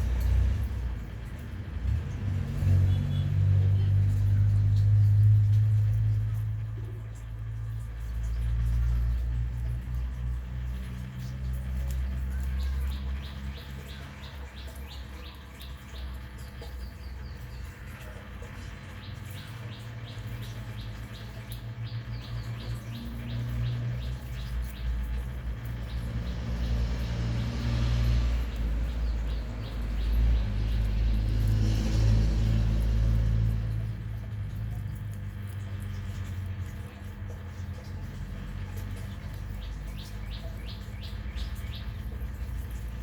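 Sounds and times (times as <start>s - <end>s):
birds chirping faintly: 0.0s - 43.0s.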